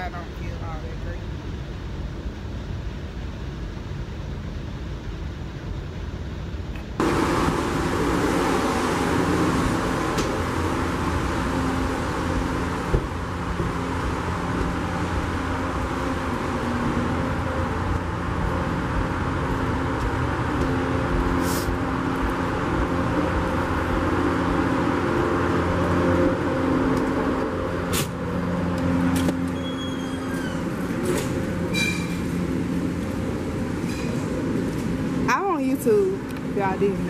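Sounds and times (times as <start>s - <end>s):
machinery drone and rumble: 0.0s - 37.0s.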